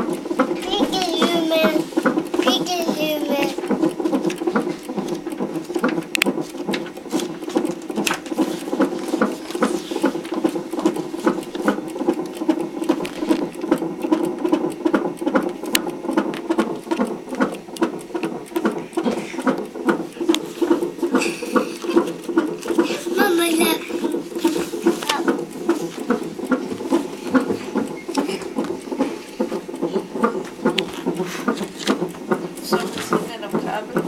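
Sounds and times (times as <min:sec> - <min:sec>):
fetal heartbeat on doppler monitor: 0:00.0 - 0:34.0.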